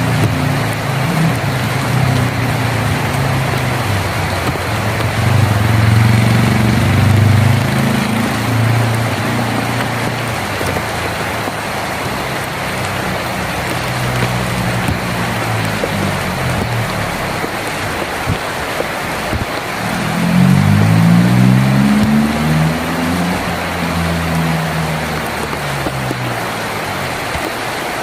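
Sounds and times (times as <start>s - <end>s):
heavy rain on a tin roof: 0.0s - 28.0s.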